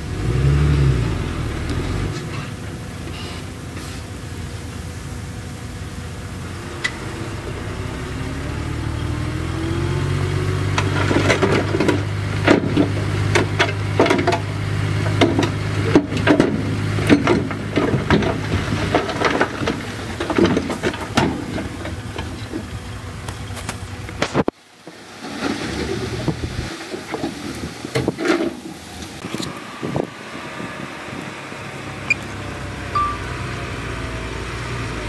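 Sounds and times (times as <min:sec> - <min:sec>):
bulldozer diesel engine running: 0:00.0 - 0:24.4, 0:27.8 - 0:35.0.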